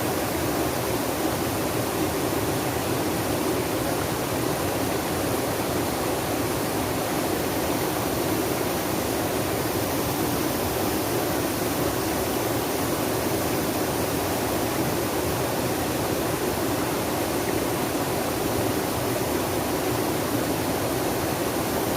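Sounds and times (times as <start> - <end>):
water flowing steadily: 0.0 - 21.9.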